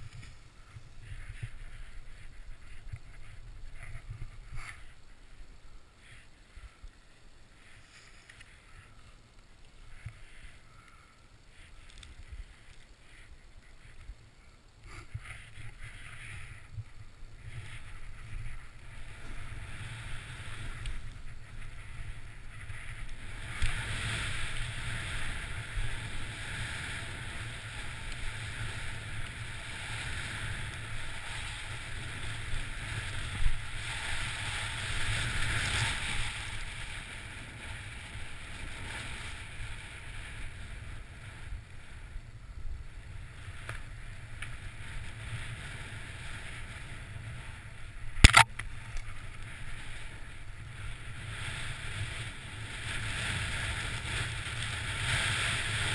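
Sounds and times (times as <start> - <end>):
wind rumble on microphone: 0.0 - 5.8, 15.0 - 55.9
skis hissing through snow: 0.0 - 42.1, 43.0 - 55.9.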